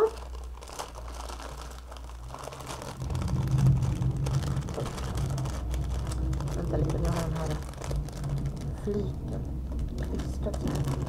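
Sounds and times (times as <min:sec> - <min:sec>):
low handling rumble: 0:00.0 - 0:11.0
plastic packaging crinkling: 0:00.0 - 0:11.0.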